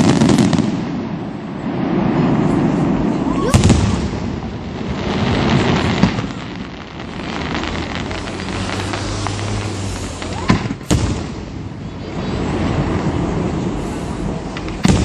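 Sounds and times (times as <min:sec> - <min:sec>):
firework bangs: 0:00.0 - 0:15.0
fireworks crackling: 0:00.0 - 0:15.0.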